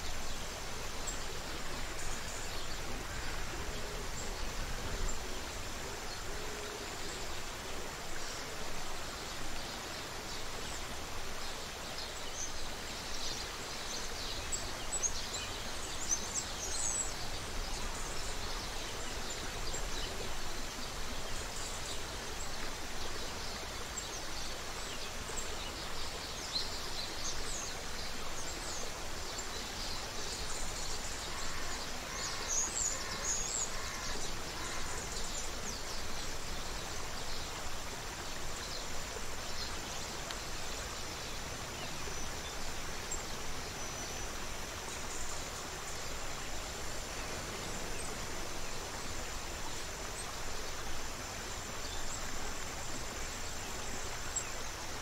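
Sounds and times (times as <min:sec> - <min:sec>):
creek water running: 0:00.0 - 0:55.0.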